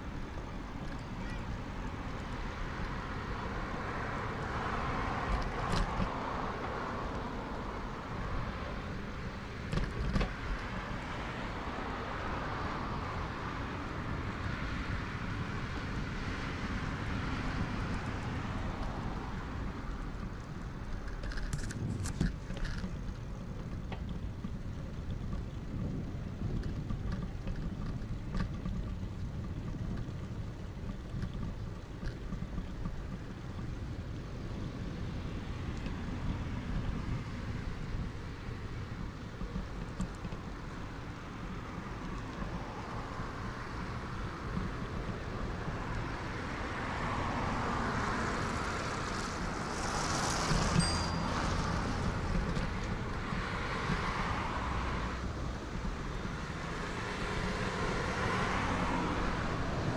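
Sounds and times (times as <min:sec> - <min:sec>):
distant road traffic hum: 0:00.0 - 0:59.9
wind rushing on microphone: 0:01.4 - 0:59.9.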